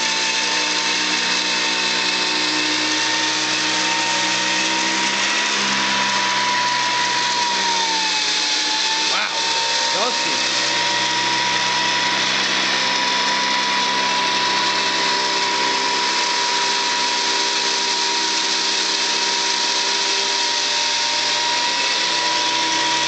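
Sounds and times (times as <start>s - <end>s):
upright vacuum cleaner running: 0.0s - 23.0s.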